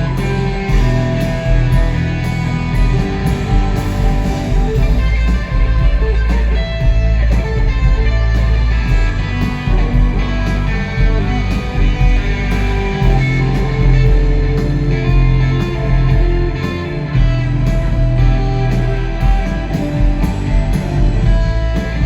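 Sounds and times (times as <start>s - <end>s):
bass and drums: 0.0s - 22.0s
electric guitar: 0.0s - 22.0s.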